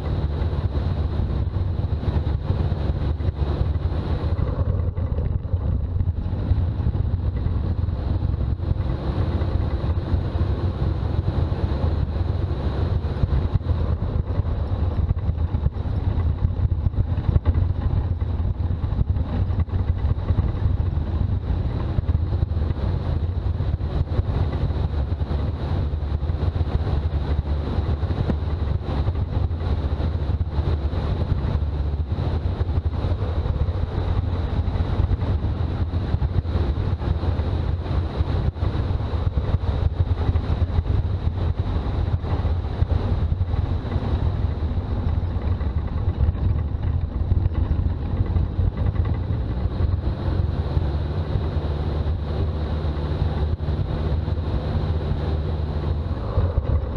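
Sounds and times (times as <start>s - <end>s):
diesel engine rumbling: 0.0s - 56.9s
road noise: 0.0s - 56.9s.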